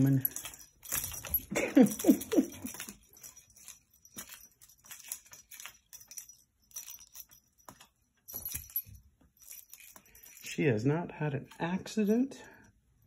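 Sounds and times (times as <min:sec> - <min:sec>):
toy clicking and jingling: 0:00.0 - 0:13.0.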